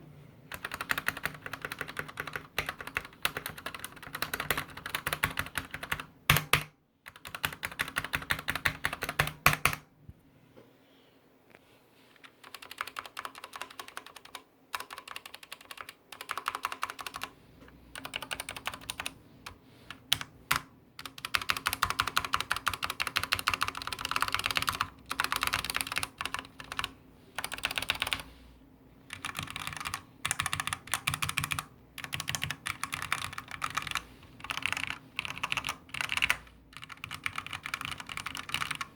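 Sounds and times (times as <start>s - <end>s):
mechanical keyboard typing: 0.5s - 9.8s, 12.2s - 17.3s, 17.9s - 28.2s, 29.1s - 38.9s.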